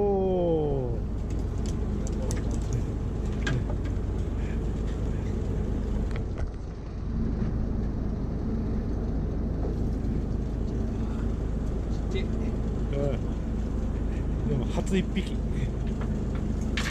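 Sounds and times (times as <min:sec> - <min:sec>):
boat engine running: 0:00.0 - 0:16.9.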